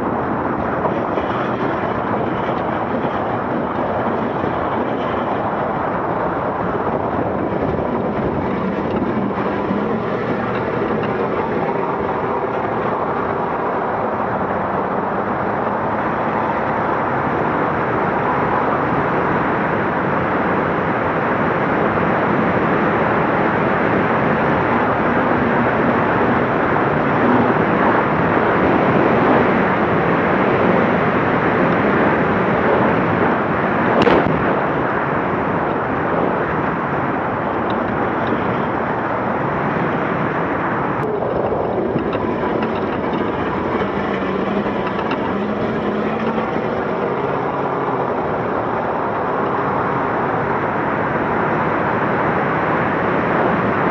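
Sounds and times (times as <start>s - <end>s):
road and wind noise: 0.0s - 53.9s
truck diesel engine under load: 0.0s - 53.9s.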